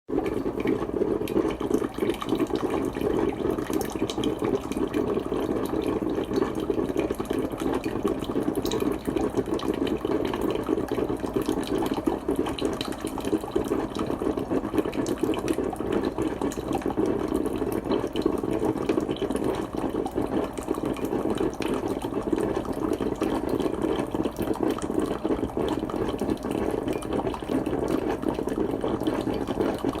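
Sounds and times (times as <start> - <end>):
coffee percolator bubbling: 0.1 - 30.0.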